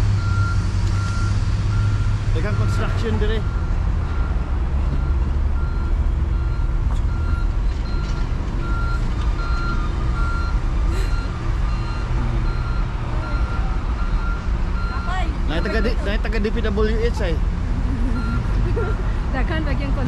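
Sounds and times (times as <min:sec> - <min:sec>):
low rumble of engines and traffic: 0:00.0 - 0:20.0
vehicle backup alarm beeping: 0:00.2 - 0:16.6, 0:18.0 - 0:19.1.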